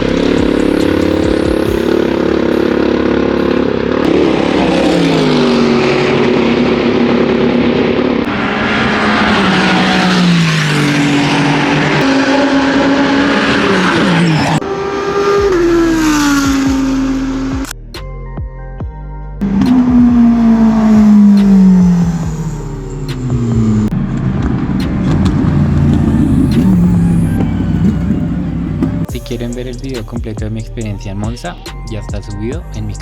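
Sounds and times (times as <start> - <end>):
race cars passing at speed: 0.0 - 17.7, 19.4 - 29.1.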